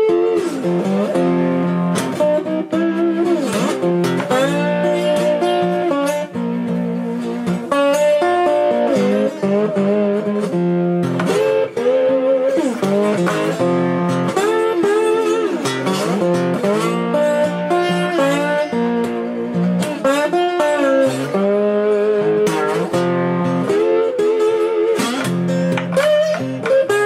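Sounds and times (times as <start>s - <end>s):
slide guitar blues line: 0.0s - 27.0s.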